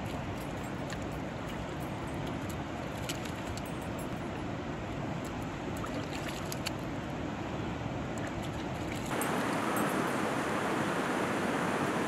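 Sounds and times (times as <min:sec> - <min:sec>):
river flowing: 0:00.0 - 0:12.0.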